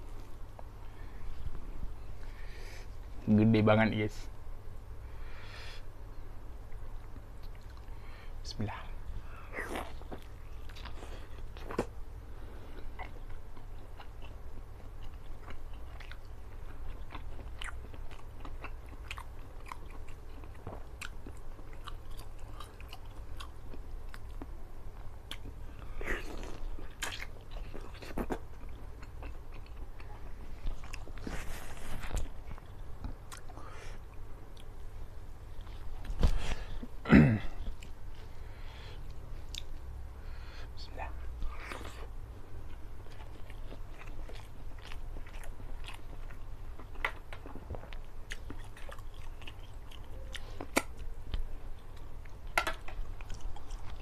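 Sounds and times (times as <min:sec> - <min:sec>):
low steady hum: 0:00.0 - 0:54.0
man chewing meat: 0:09.2 - 0:40.6, 0:41.4 - 0:54.0.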